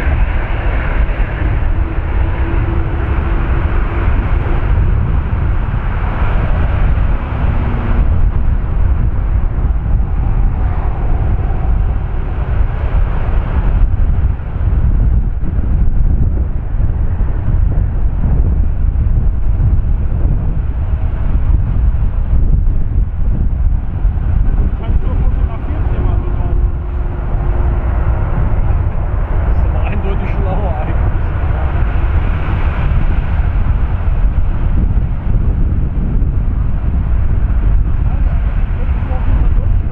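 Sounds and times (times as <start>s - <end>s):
jet engines rumbling: 0.0s - 39.9s
wind buffeting microphone: 0.0s - 39.9s.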